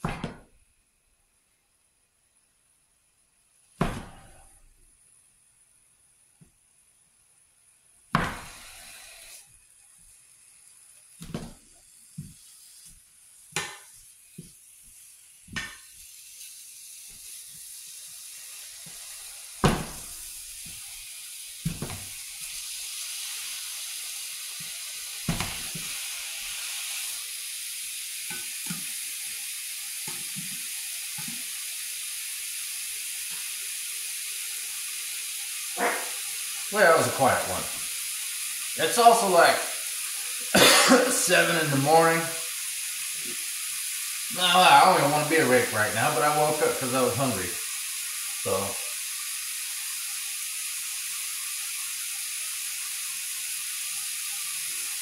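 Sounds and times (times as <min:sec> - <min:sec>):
meat sizzling in a frying pan: 0:07.6 - 0:55.0.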